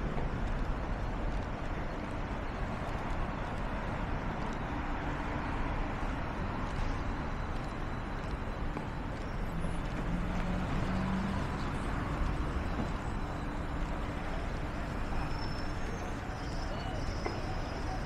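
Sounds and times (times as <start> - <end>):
cars and buses driving past: 0.0 - 18.0.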